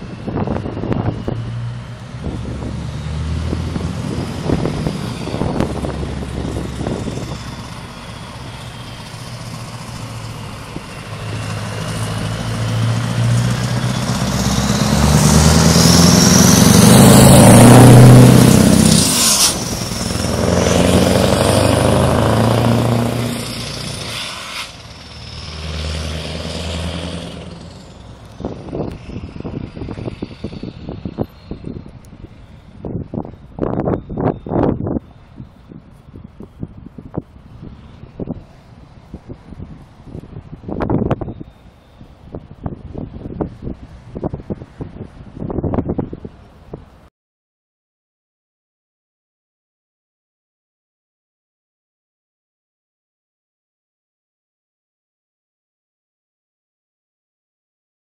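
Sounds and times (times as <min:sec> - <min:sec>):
truck engine accelerating: 0:00.0 - 0:47.0.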